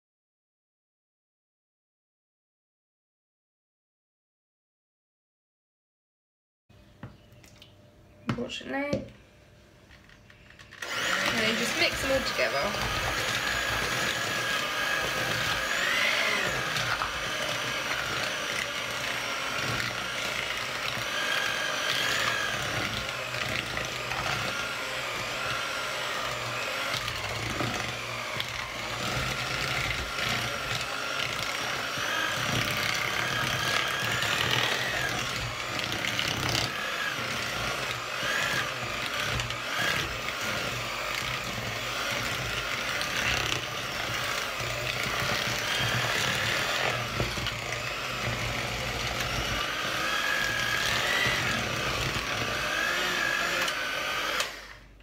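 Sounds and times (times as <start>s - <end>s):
electric hand mixer running: 10.7s - 55.0s.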